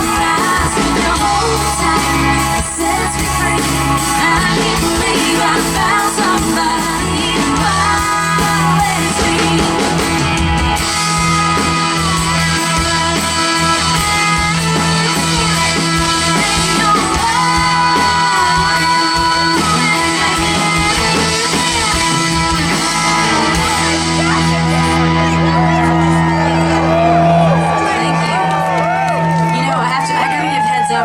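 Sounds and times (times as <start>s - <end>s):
lead guitar: 0.0s - 31.0s
live country band instrumental: 0.0s - 31.0s.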